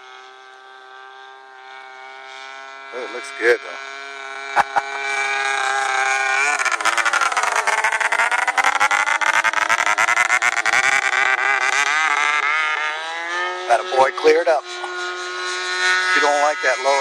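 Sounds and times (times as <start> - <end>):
model plane engine running: 0.0 - 17.0.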